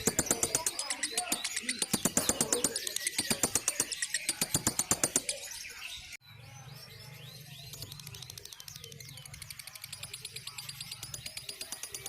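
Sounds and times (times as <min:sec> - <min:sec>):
lovebird chattering trill: 0:00.0 - 0:06.1, 0:07.7 - 0:12.0.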